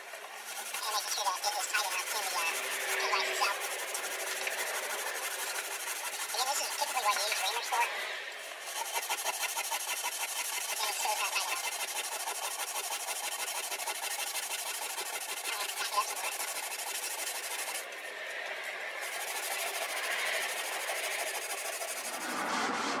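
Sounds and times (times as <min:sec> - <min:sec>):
wire wool scrubbing wood: 0:00.0 - 0:22.3.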